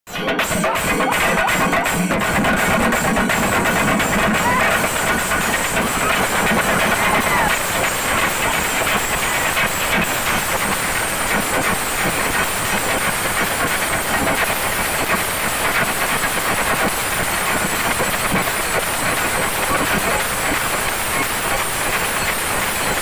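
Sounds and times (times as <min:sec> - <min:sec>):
drums beaten with sticks: 0:00.1 - 0:23.0.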